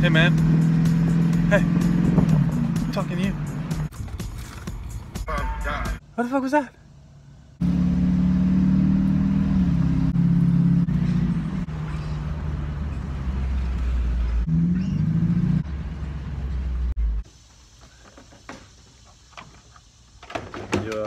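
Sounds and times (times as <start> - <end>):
truck engine and road noise: 0.0 - 21.0.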